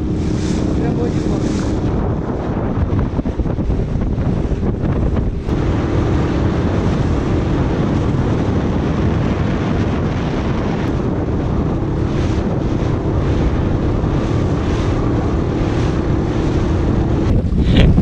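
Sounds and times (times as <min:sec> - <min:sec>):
hull rushing through water: 0:00.0 - 0:18.0
motorboat engine drone: 0:00.0 - 0:18.0
wind buffeting microphone: 0:00.0 - 0:18.0.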